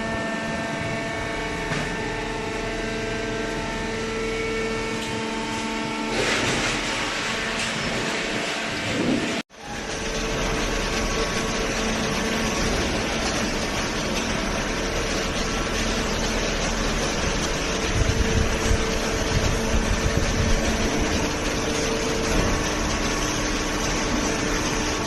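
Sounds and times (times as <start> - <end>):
electric motor and pump humming: 0.0 - 25.0.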